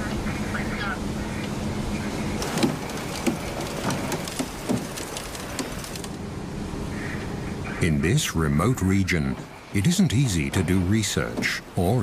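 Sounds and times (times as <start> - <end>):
background noise haze: 0.0 - 12.0
motor hum: 0.0 - 12.0.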